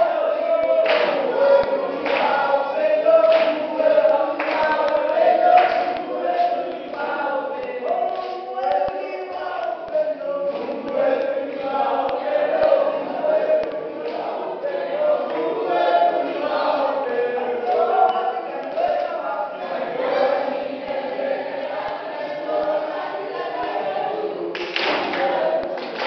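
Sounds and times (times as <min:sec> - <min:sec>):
group singing in chorus: 0:00.0 - 0:26.0.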